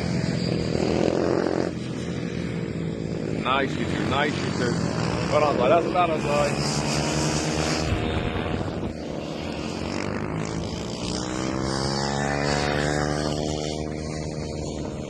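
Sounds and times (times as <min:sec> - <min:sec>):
mini motorcycle engines revving: 0:00.0 - 0:15.0.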